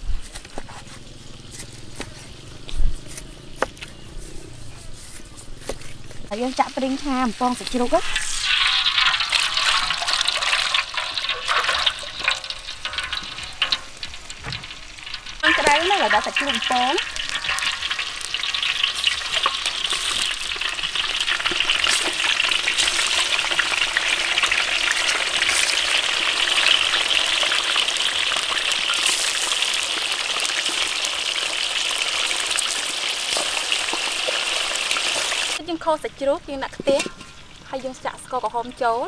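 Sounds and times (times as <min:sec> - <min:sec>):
pork sizzling in hot oil: 0:00.0 - 0:39.0.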